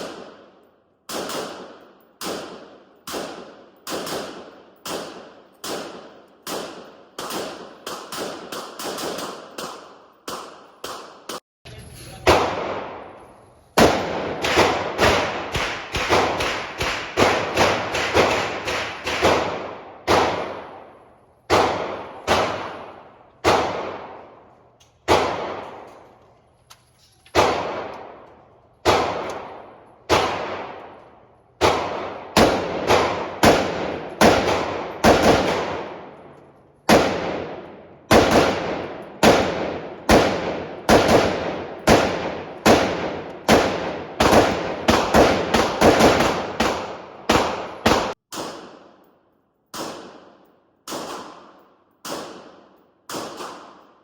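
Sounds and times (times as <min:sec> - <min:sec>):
gunshots echoing indoors: 0:00.0 - 0:54.0.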